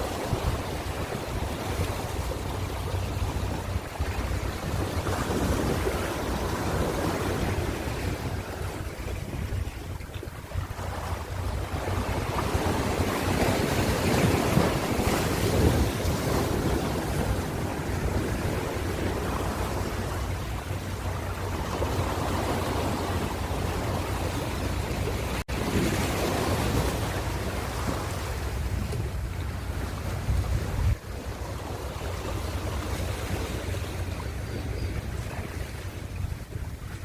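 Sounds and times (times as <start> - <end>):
ocean waves on shore: 0.0 - 37.0
wind rumble on microphone: 0.0 - 37.0.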